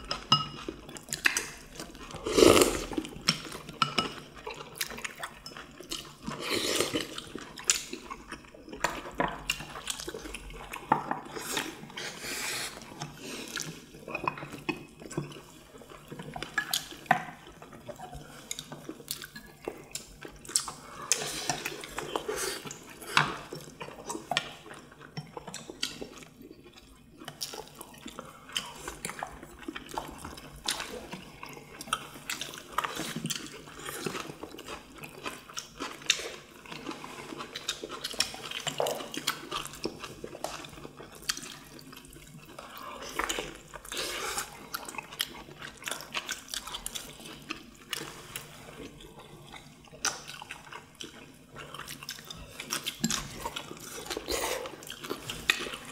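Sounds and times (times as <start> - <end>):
wet chewing sounds: 0.0 - 55.9.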